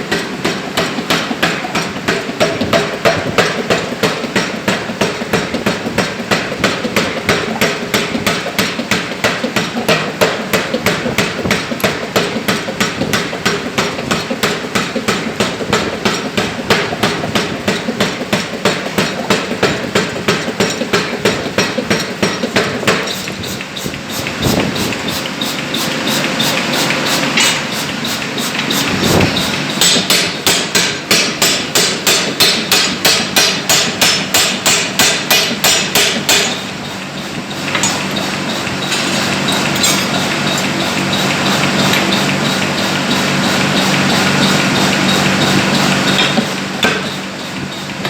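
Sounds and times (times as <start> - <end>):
power hammer striking steel: 0.0 - 47.2.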